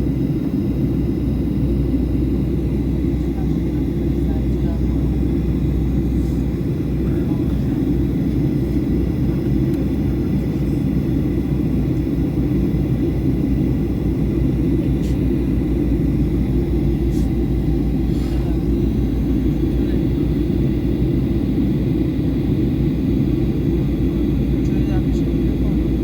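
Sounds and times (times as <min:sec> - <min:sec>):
low rumble of engines and airflow: 0:00.0 - 0:26.0.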